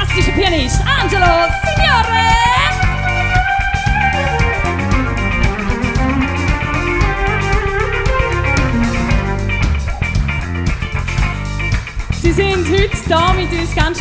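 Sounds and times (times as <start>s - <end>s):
bass guitar: 0.0s - 14.0s
drums: 0.0s - 14.0s
electric guitar: 0.0s - 14.0s
keyboard: 0.0s - 14.0s.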